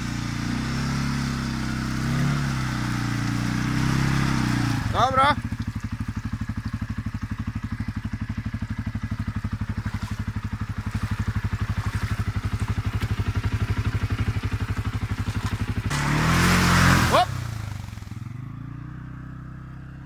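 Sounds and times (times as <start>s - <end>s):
engine idling: 0.0s - 18.4s.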